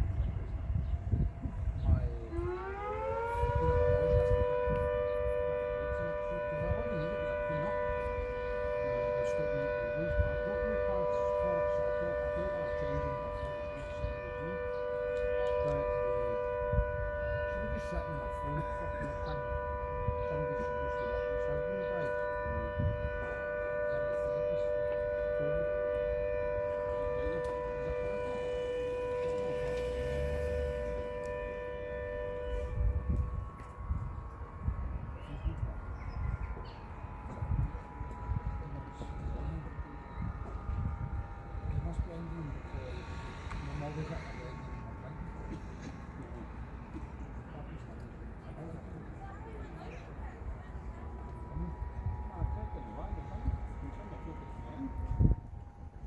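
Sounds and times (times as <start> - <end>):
two-note warning siren: 0.0 - 56.0.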